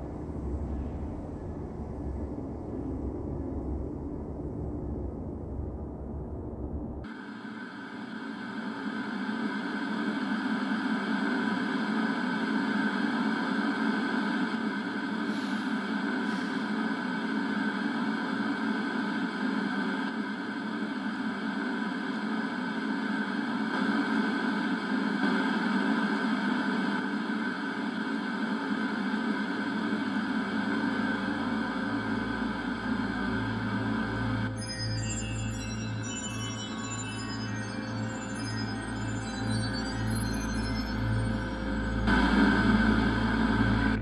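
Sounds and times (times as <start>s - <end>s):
droning hum with hiss: 0.0s - 44.0s.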